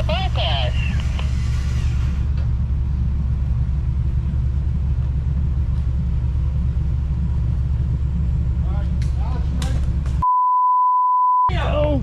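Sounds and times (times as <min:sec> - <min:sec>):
engine running at low revs: 0:00.0 - 0:10.2.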